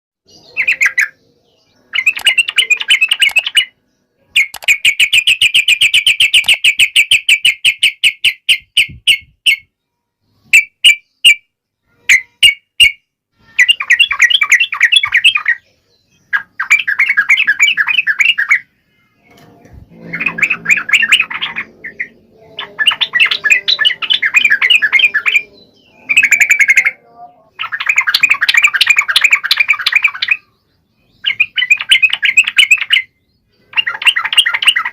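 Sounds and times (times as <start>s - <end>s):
bulbul chattering song: 0.2s - 34.9s.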